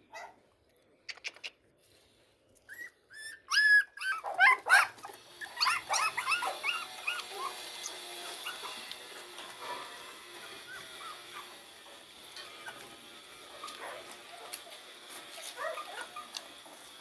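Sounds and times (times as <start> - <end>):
puppies whimpering and squealing: 2.6 - 16.8.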